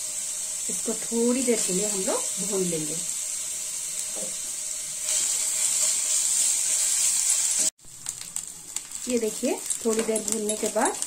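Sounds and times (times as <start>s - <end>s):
paste sizzling in a frying pan: 0.0s - 11.0s.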